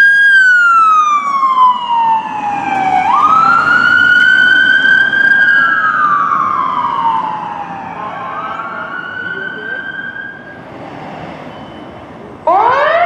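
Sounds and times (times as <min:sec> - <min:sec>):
wailing siren: 0:00.0 - 0:10.6, 0:12.4 - 0:13.0
vehicle and road noise: 0:00.0 - 0:13.0.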